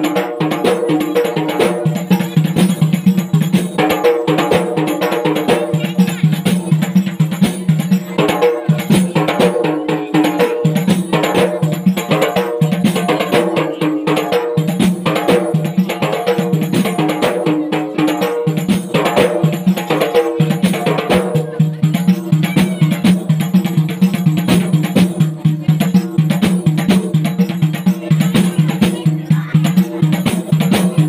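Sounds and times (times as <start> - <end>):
frame drums playing fast rhythm: 0.0 - 31.0.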